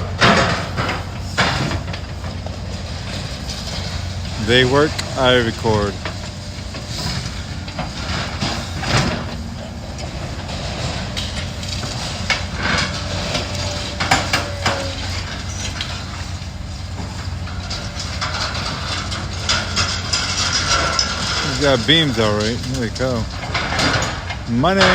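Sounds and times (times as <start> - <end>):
heavy demolition machine running: 0.0 - 24.9
metal clanks and knocks: 0.0 - 24.9.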